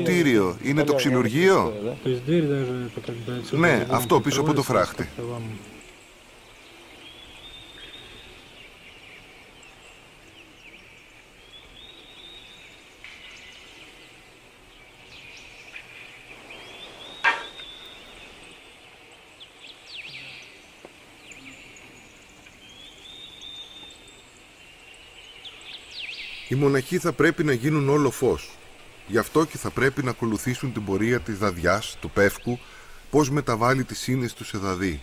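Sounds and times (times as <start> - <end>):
high chirping calls: 0.0 - 35.0.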